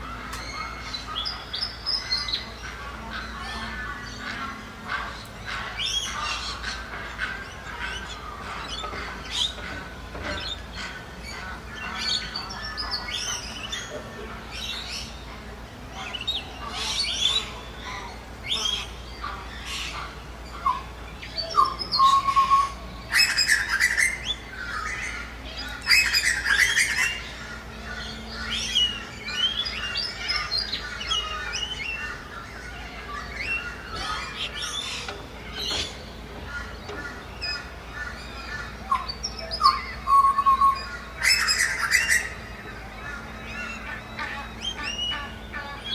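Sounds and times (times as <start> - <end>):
ducks and birds chirping and squawking: 0.0 - 45.9.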